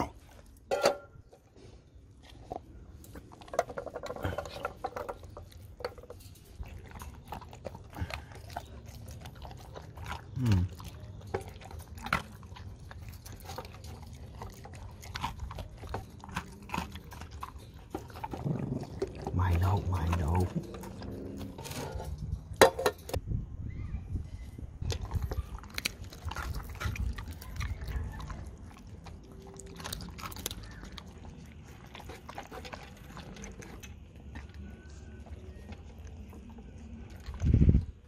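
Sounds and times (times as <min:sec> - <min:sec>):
dog chewing food: 0:00.0 - 0:23.2, 0:24.8 - 0:38.0.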